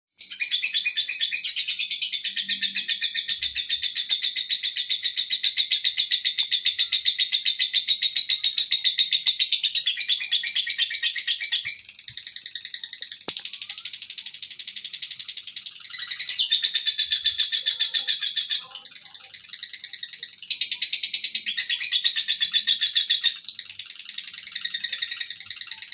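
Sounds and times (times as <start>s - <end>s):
lovebird chattering trill: 0.2s - 25.9s.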